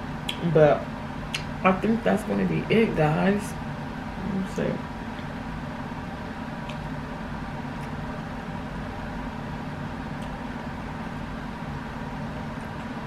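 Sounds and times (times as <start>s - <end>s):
heater humming and whirring: 0.0s - 13.0s.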